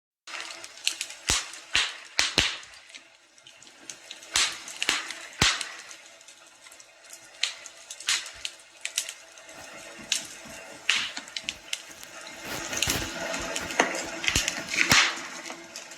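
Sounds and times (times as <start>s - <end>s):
fire crackling with pops: 0.3s - 15.6s.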